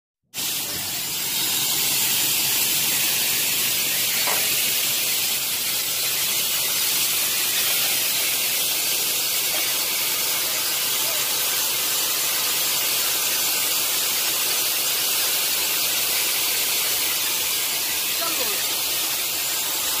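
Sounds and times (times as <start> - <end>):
air hissing from locomotive: 0.3 - 20.0.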